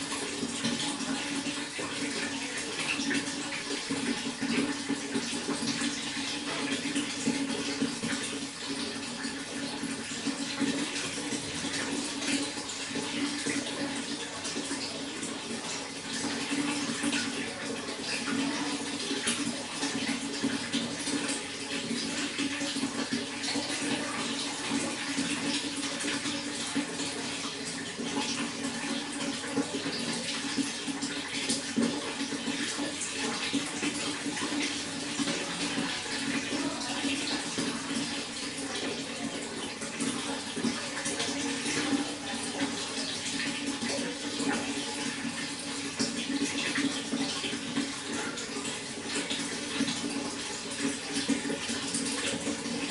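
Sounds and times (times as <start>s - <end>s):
running water: 0.0s - 52.9s.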